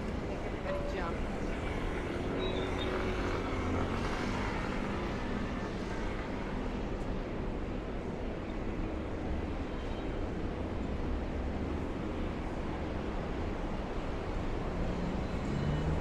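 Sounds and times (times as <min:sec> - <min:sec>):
city street traffic rumble: 0:00.0 - 0:16.0.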